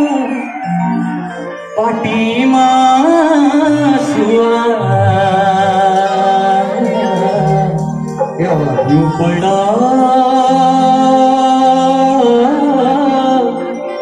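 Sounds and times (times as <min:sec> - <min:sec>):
live folk music: 0:00.0 - 0:14.0.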